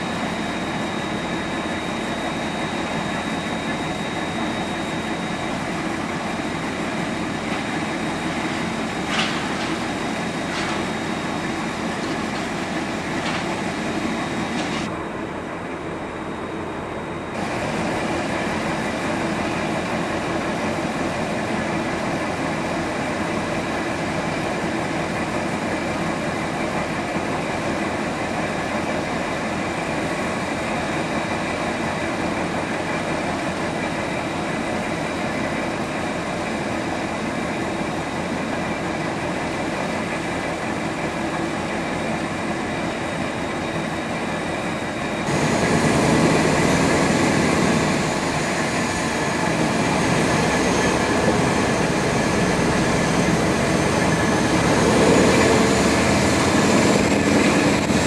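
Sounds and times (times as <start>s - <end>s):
diesel locomotive idling: 0.0s - 58.0s.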